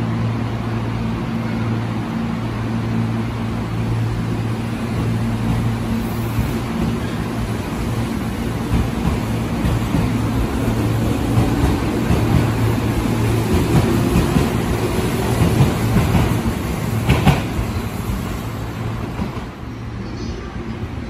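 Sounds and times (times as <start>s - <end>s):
train motor hum: 0.0s - 21.0s
train wheel rumble: 0.0s - 21.0s.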